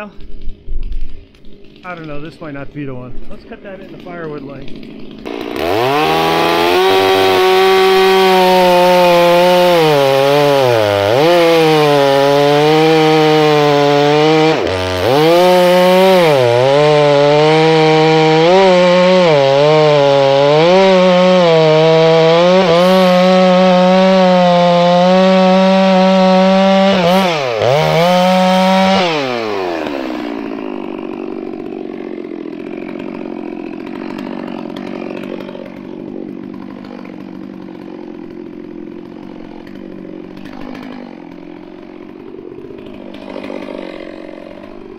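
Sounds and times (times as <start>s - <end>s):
chainsaw cutting stump: 0.0s - 44.9s.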